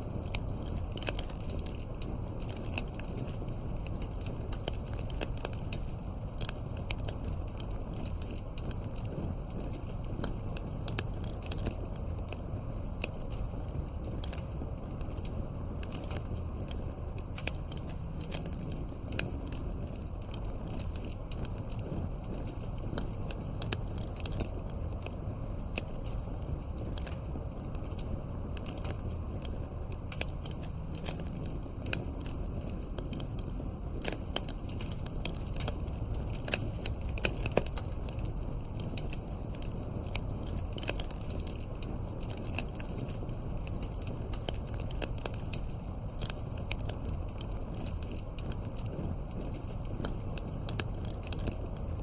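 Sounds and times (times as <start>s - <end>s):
campfire crackling and popping: 0.0s - 52.0s
low rumble of flames: 0.0s - 52.0s.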